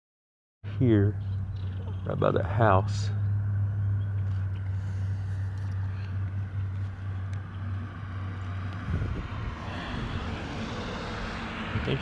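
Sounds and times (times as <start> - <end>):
highway traffic rumble: 0.7 - 12.0
loud engine noise: 0.7 - 12.0.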